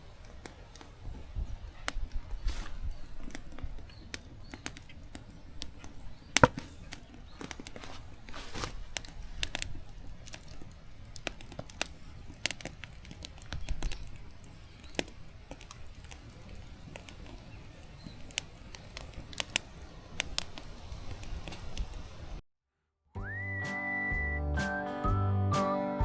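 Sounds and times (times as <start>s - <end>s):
campfire crackling and popping: 0.0s - 22.4s.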